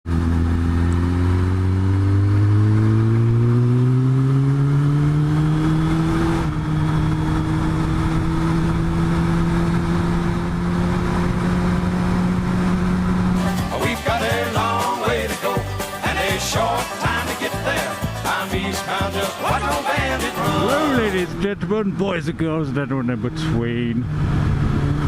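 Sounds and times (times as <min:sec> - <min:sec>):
motorcycle engine accelerating: 0:00.1 - 0:22.0, 0:22.7 - 0:25.0.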